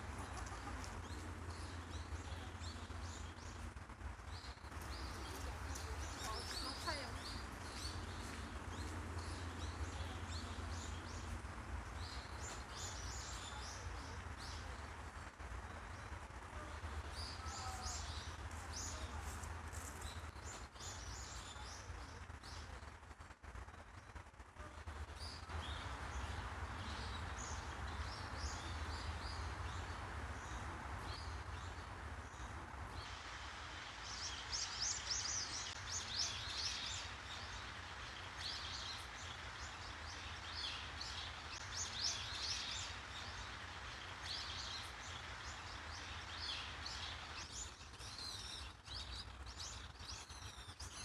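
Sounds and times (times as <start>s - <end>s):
small birds chirping: 0.0s - 22.9s, 24.6s - 51.0s
low background hum: 0.0s - 51.0s.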